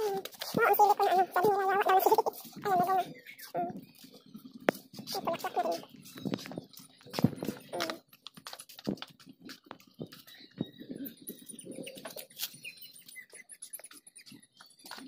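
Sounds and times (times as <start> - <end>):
faint bird chirps: 0.0 - 8.1, 9.4 - 15.0
clicks and rustles in leaves: 0.0 - 15.0.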